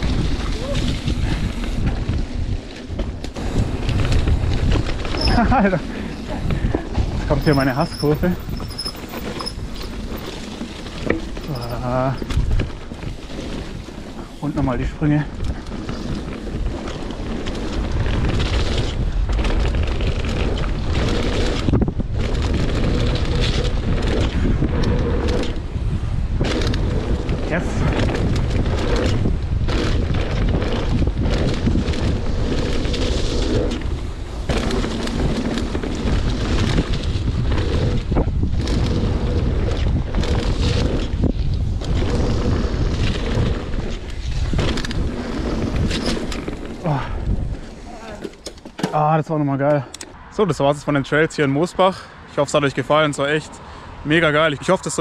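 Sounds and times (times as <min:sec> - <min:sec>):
tyre noise on soft ground: 0:00.0 - 0:49.9
bike rattling: 0:00.0 - 0:51.9
wind buffeting microphone: 0:00.0 - 0:55.0.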